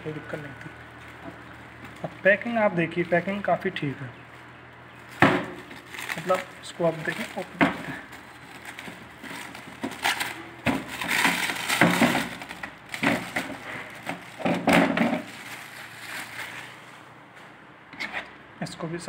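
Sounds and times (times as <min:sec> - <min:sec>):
plastic wrapping crinkling: 0:00.0 - 0:17.1.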